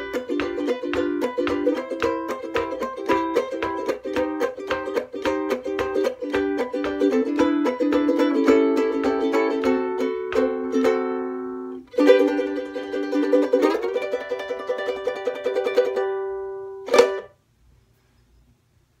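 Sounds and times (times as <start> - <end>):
ukulele played clawhammer style: 0.0 - 17.4.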